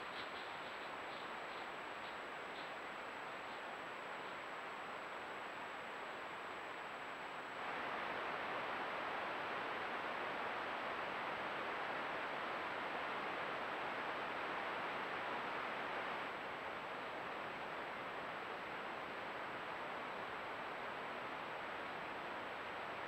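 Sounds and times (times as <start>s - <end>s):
faint high-pitched whine: 0.0s - 23.0s
microphone hiss: 0.0s - 23.0s.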